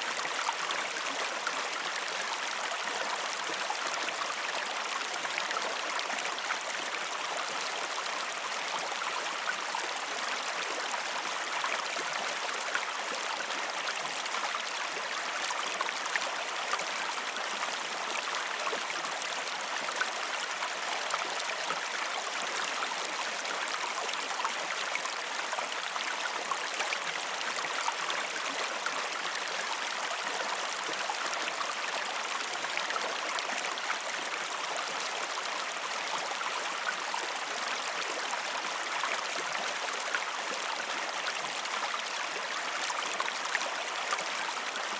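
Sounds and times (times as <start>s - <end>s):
river water flowing: 0.0s - 44.9s.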